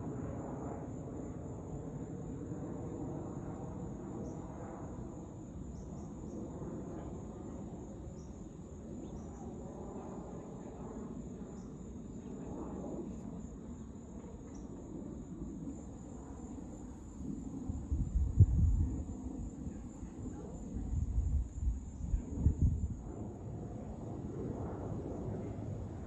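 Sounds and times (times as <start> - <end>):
crickets trilling: 0.0 - 26.0
distant jet airliner rumble: 0.0 - 26.0.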